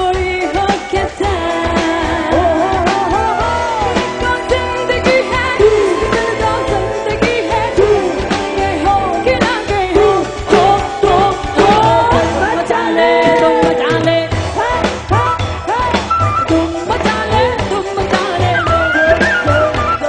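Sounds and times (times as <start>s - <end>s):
bass: 0.0s - 20.0s
lead singer singing: 0.0s - 20.0s
live band playing: 0.0s - 20.0s
drum beat: 0.8s - 20.0s.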